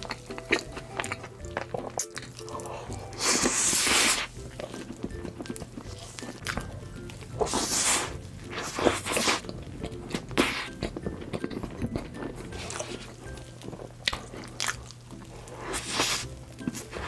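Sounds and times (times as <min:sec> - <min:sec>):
background music with bass: 0:00.0 - 0:17.0
chewing and mouth sounds: 0:00.0 - 0:17.0.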